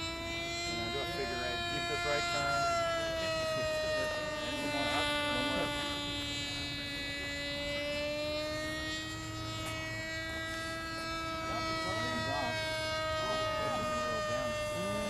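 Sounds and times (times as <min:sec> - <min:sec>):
model plane engine whine: 0:00.0 - 0:15.0.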